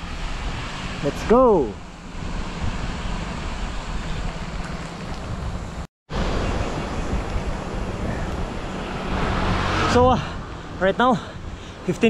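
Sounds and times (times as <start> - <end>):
wind buffeting microphone: 2.2 - 12.0.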